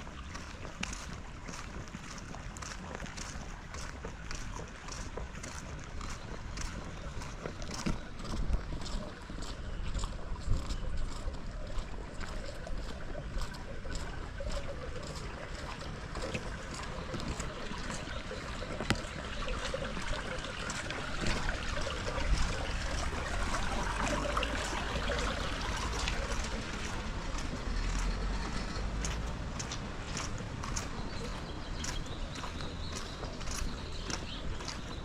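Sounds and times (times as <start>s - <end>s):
water trickling: 0.0s - 35.0s.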